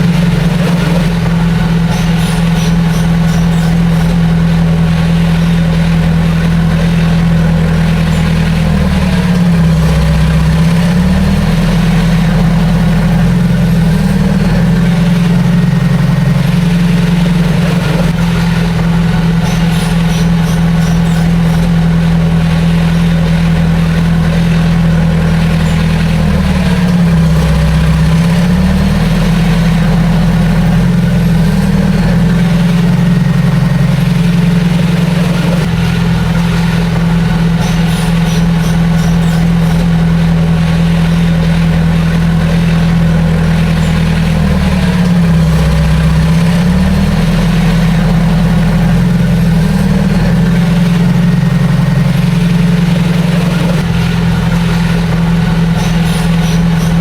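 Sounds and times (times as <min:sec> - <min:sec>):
diesel engine running loudly: 0:00.0 - 0:57.0.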